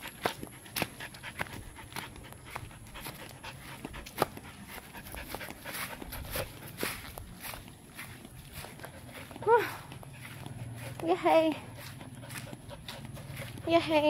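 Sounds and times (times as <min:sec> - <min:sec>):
dog panting: 0:00.0 - 0:14.0
footsteps on dry ground: 0:00.0 - 0:14.0.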